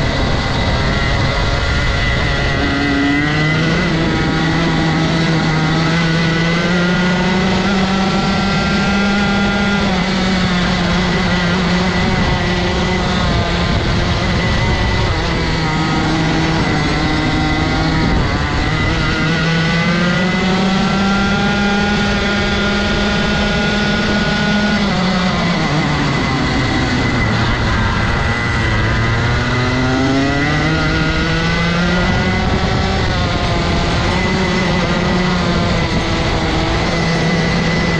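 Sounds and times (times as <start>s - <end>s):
kart engine revving: 0.0s - 37.9s.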